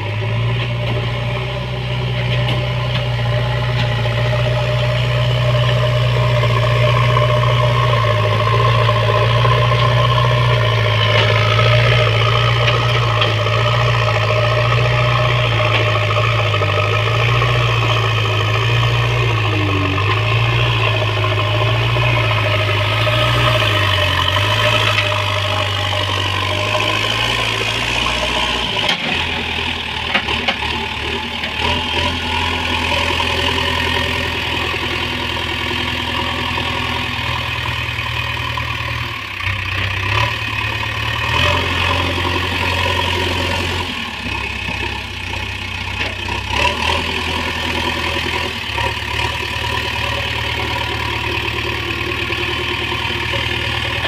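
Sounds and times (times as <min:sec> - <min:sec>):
diesel engine under changing load: 0:00.0 - 0:54.0.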